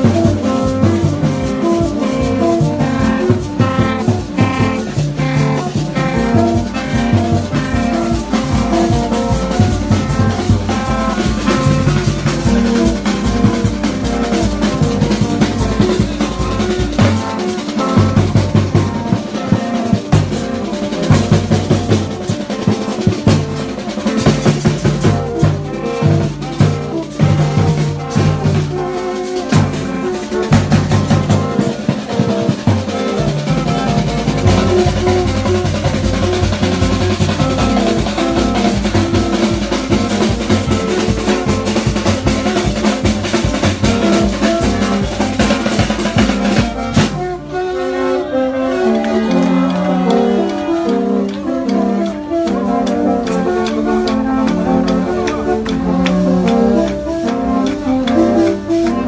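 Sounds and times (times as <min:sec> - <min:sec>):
hand drum and snare drums: 0:00.0 - 0:59.0
music: 0:00.0 - 0:59.0
plastic horns short notes: 0:00.0 - 0:59.0.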